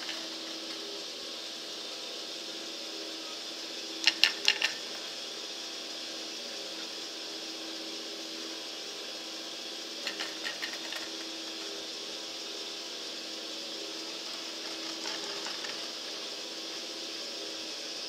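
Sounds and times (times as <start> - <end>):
ski lift mechanical hum: 0.0 - 18.0.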